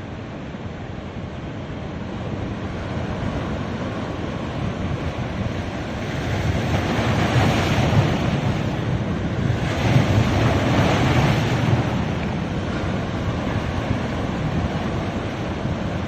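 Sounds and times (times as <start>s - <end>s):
wind rumbling on microphone: 0.0s - 16.0s
sea waves breaking on sand: 1.8s - 16.0s.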